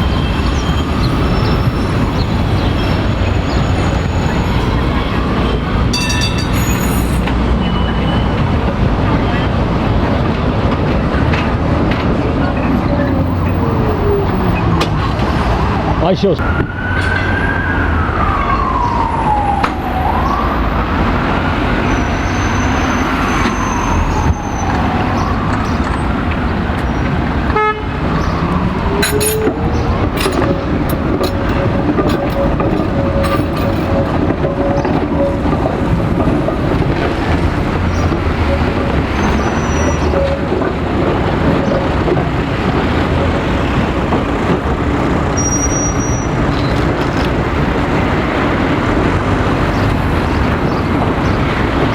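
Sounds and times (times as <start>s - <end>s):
emergency vehicle siren wailing: 0.0s - 11.2s, 12.2s - 51.9s
street traffic: 0.0s - 51.9s.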